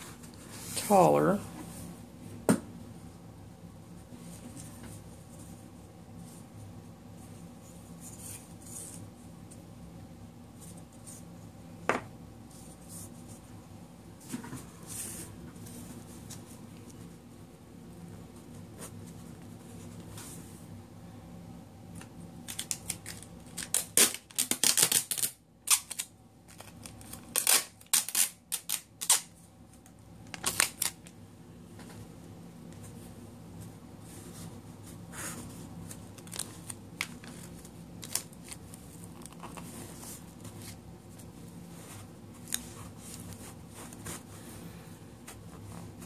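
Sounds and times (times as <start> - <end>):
low room hum: 0.0 - 46.0.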